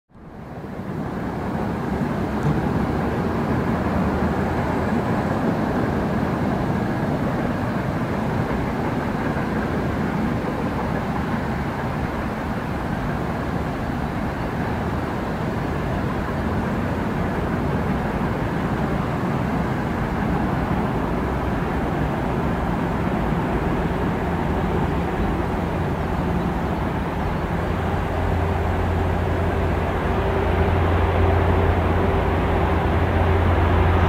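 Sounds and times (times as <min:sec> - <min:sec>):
electric train rumble with whine: 0:00.1 - 0:34.0.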